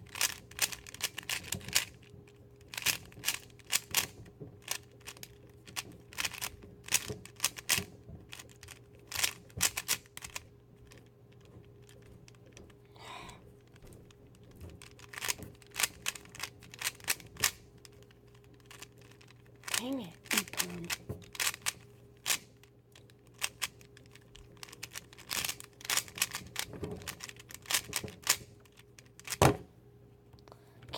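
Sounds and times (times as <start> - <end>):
puzzle cube plastic clicking: 0.0 - 29.6.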